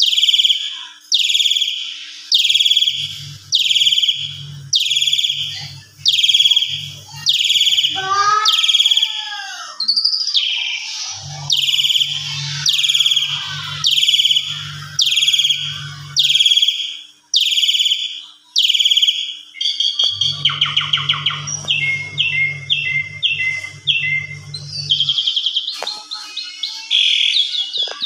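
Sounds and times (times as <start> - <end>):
starling singing harsh notes: 0.0 - 27.7.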